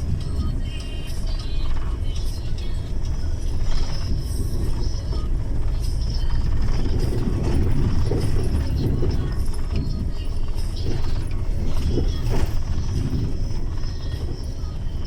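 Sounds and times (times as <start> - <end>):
engine and road drone: 0.0 - 15.0
rattles and knocks: 0.0 - 15.0.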